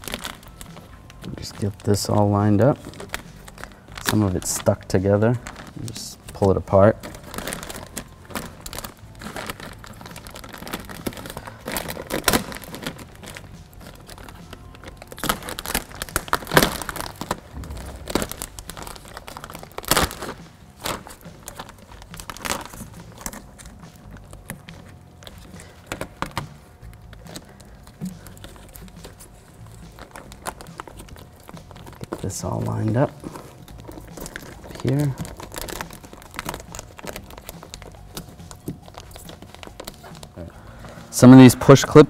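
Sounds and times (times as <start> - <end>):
plastic sheet crinkling: 0.0 - 42.0.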